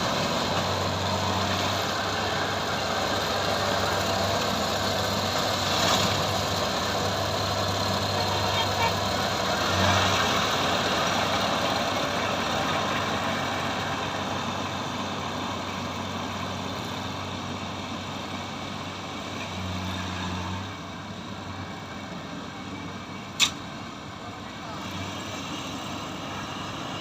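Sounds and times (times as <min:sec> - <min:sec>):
combine harvester engine running: 0:00.0 - 0:27.0.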